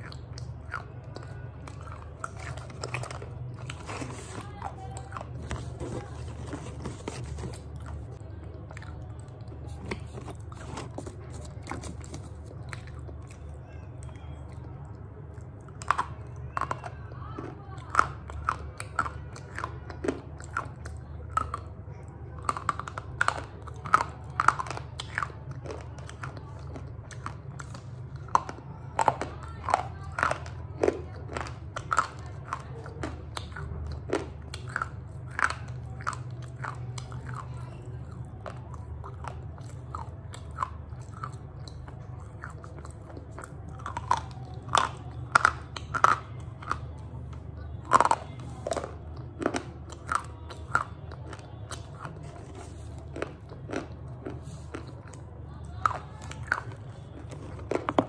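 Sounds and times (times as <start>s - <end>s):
slate pencils crunching when chewed: 0.0s - 58.0s.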